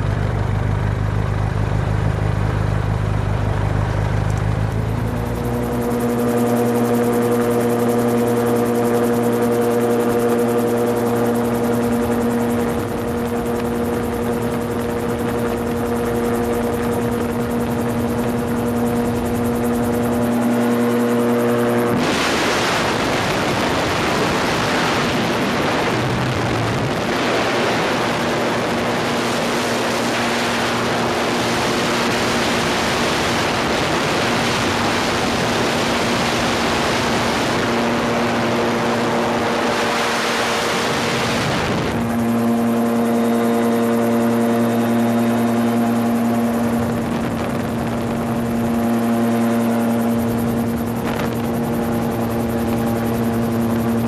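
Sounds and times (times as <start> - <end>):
gyrocopter engine and propeller: 0.0 - 54.0
wind rush on microphone: 2.2 - 54.0.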